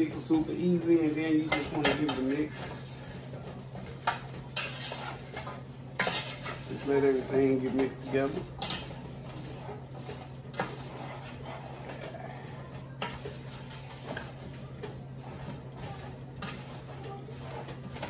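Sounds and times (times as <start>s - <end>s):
metal spoon stirring in a pot: 0.0s - 18.0s.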